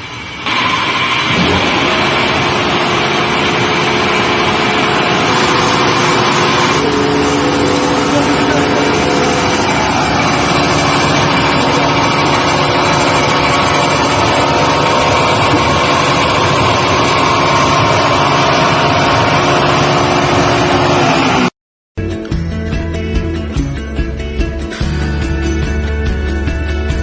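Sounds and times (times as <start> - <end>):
grinding machine running: 0.0 - 27.0.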